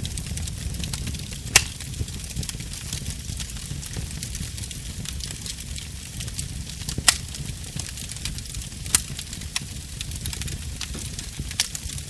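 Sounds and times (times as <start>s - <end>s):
low rumble of flames: 0.0s - 12.0s
wood fire crackling and popping: 0.0s - 12.0s.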